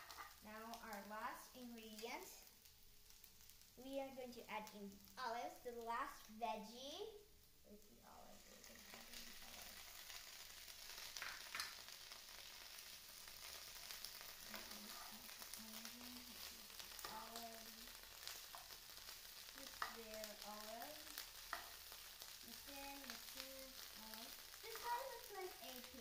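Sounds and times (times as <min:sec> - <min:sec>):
vegetables sizzling in a pan: 0:00.0 - 0:26.0.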